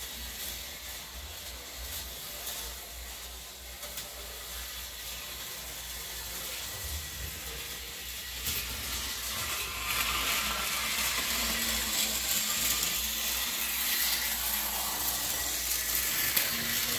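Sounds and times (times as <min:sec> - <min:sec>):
model train whirring: 0:00.0 - 0:16.9.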